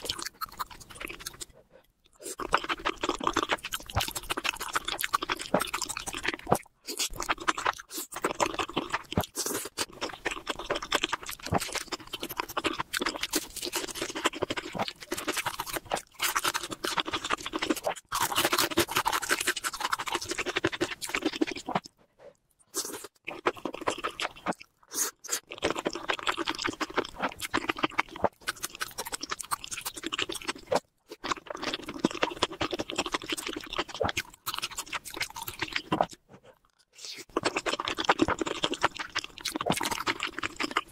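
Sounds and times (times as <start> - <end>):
person chewing wet crackly: 0.0 - 22.0, 22.6 - 40.9.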